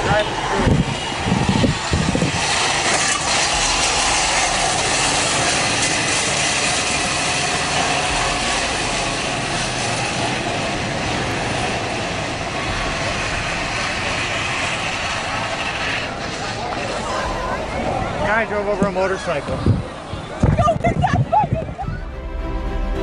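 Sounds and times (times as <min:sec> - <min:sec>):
moving vehicle rushing noise: 0:00.0 - 0:23.0.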